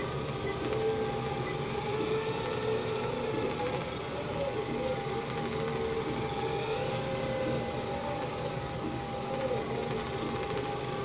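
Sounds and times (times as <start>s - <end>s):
toy car motor whine: 0.0s - 11.0s
treadmill motor whirring: 0.0s - 11.0s.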